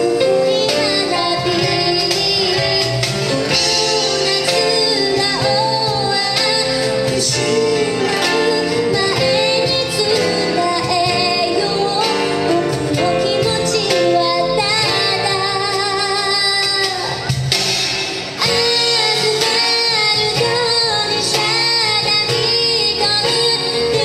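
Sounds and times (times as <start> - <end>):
woman singing a slow ballad: 0.0 - 17.3, 18.4 - 24.0
band with keyboard and guitar: 0.0 - 24.0.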